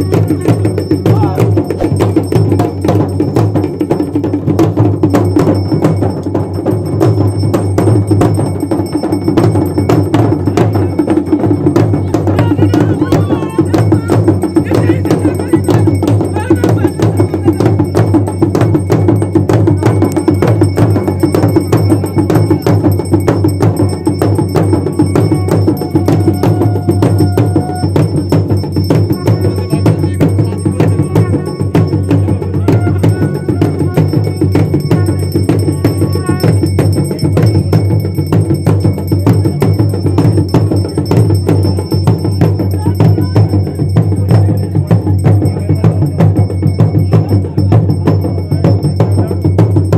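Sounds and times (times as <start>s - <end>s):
dhol drumming: 0.0s - 49.9s.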